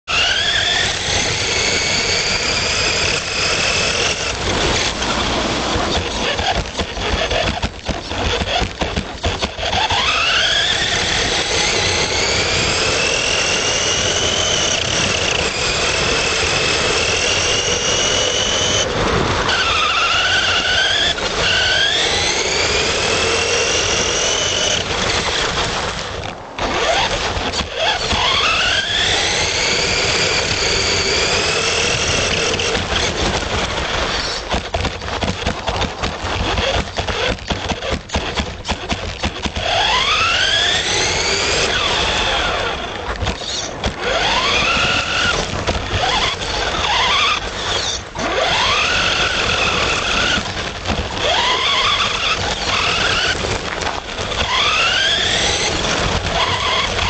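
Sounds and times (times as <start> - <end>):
electric motor whining: 0.1 - 57.0
steady rush of noise: 0.2 - 57.0.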